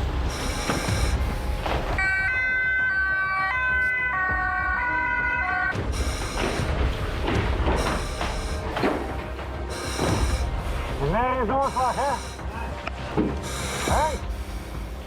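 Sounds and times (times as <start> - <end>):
emergency vehicle siren: 0.2 - 12.4.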